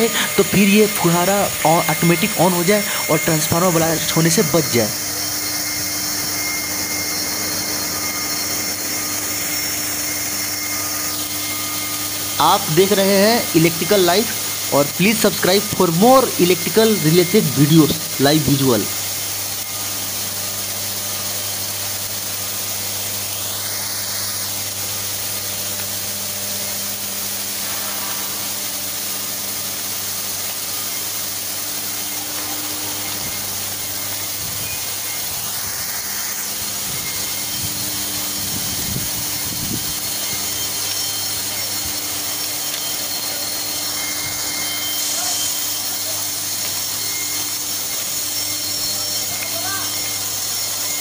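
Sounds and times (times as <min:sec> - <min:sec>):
low hum: 0:00.0 - 0:50.5
water spray hissing: 0:00.0 - 0:51.0.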